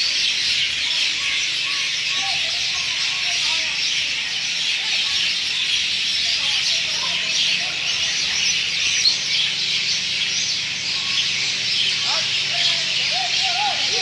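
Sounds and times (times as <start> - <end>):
birds chirping in chorus: 0.0 - 14.0
lower bird calls: 0.0 - 14.0.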